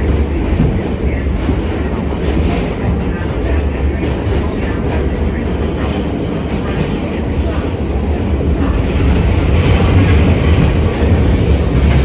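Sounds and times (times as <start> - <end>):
subway wheels rumbling on rail: 0.0 - 12.0.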